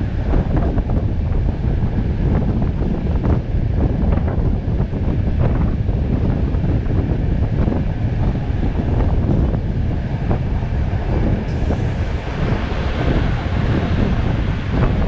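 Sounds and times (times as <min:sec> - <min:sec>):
train carriages rumbling on track: 0:00.0 - 0:15.0
wind buffeting microphone: 0:00.0 - 0:15.0.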